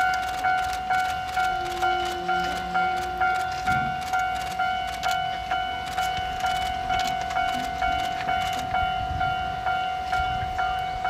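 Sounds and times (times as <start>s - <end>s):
level-crossing bell ringing: 0.0s - 11.0s.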